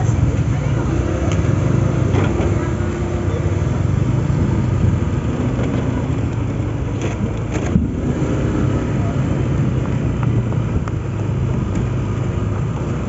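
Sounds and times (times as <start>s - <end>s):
motorbike engines: 0.0s - 13.0s
scooter engine running: 0.0s - 13.0s.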